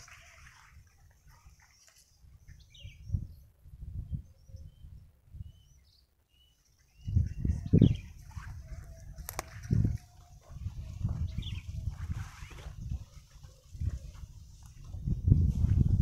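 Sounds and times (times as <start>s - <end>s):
small birds chirping: 0.0s - 3.5s, 4.1s - 15.1s.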